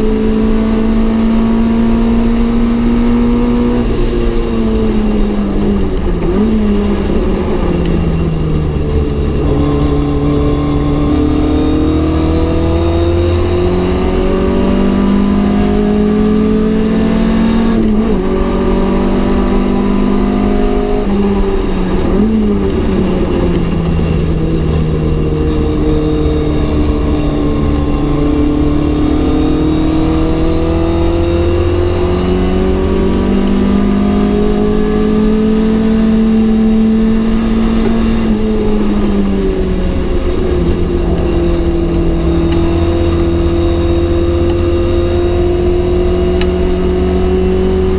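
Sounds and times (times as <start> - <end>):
racing car engine revving: 0.0 - 47.9.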